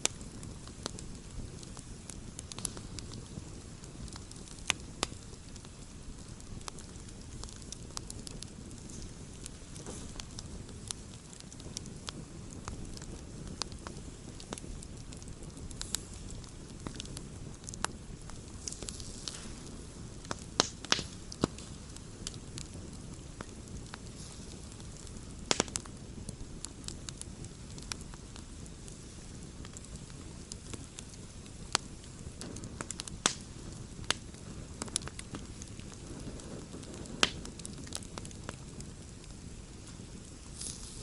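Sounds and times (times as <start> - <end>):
burning wood pops and snaps: 0.0 - 41.0
low rumble of flame: 0.0 - 41.0.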